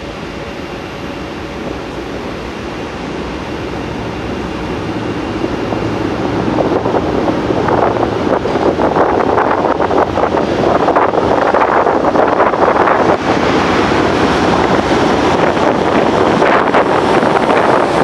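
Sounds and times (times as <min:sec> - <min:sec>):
train clattering: 0:00.0 - 0:18.0
train rumbling in a tunnel: 0:00.0 - 0:18.0.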